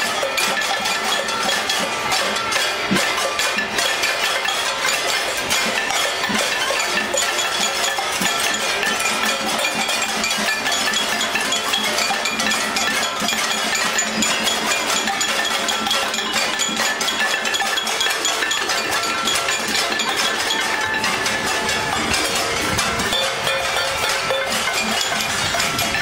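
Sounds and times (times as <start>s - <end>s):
pots and pans clanging: 0.0s - 26.0s.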